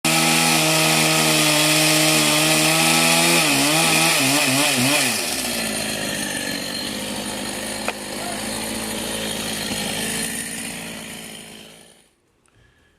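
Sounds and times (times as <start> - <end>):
chainsaw cutting log: 0.1 - 12.2.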